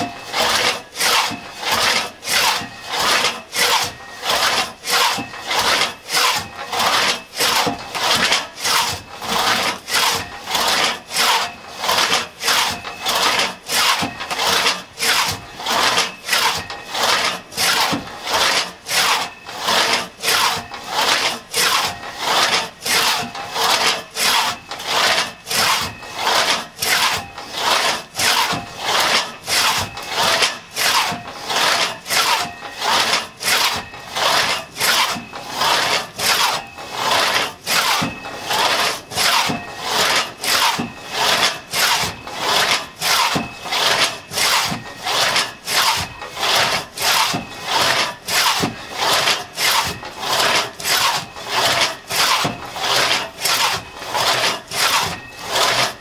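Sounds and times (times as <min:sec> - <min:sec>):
hand saw rasping through log: 0:00.0 - 0:56.0.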